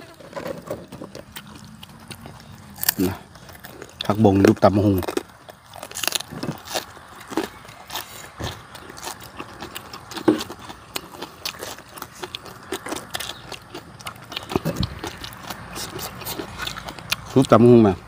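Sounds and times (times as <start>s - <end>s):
people chewing crunchy food: 0.0s - 18.0s.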